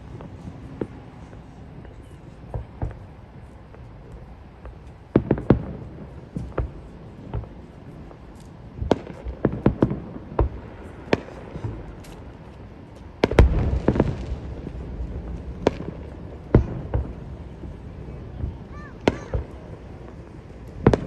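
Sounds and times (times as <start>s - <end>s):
fireworks bangs and booms: 0.0s - 21.0s
fireworks crackling rumble: 0.0s - 21.0s.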